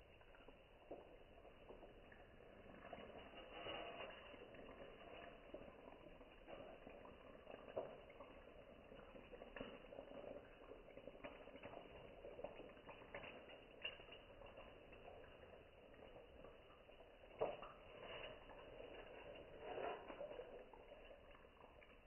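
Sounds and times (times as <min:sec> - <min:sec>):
cooking oil sizzling: 0:00.0 - 0:22.0
oil crackling and popping: 0:00.0 - 0:22.0.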